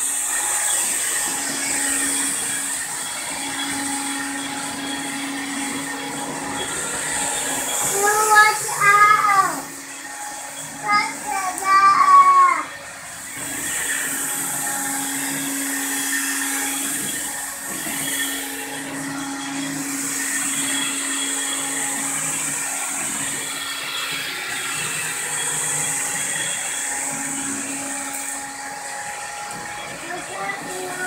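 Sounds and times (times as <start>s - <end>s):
stick vacuum running: 0.0s - 31.0s.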